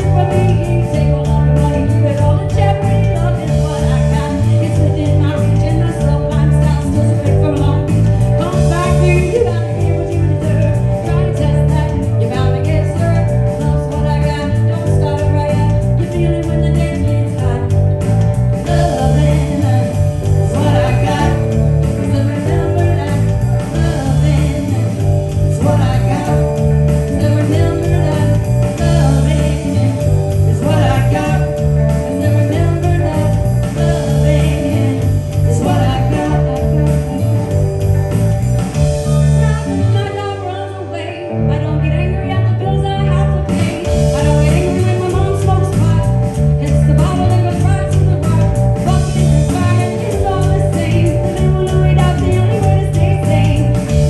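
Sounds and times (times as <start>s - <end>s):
person singing: 0.0s - 17.8s, 18.5s - 37.4s, 39.0s - 54.0s
live band playing: 0.0s - 54.0s.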